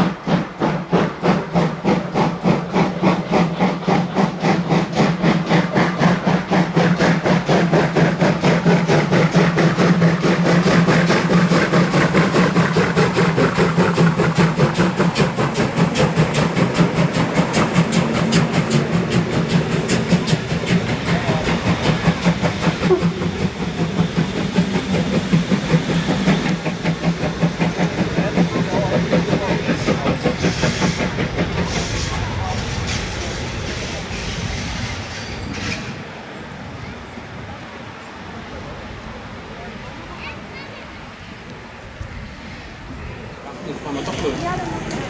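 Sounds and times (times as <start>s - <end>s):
train running: 0.0s - 45.0s.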